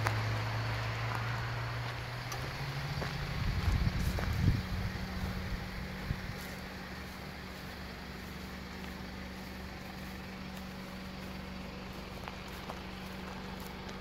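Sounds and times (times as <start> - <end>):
car engine idling: 0.0 - 14.0
footsteps crunching on gravel: 0.0 - 14.0.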